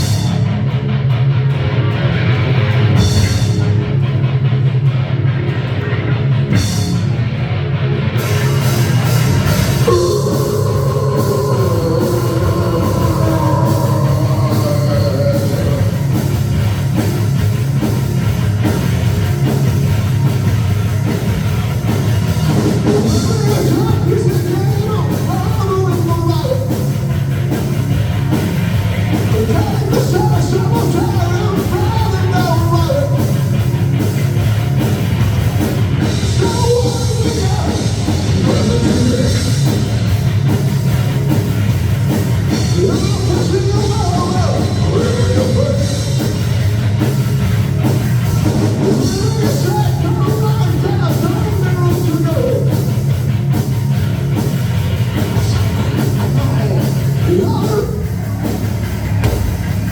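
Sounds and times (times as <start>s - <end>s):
distorted electric guitars: 0.0s - 59.9s
drum kit: 0.0s - 59.9s
rock band playing: 0.0s - 59.9s.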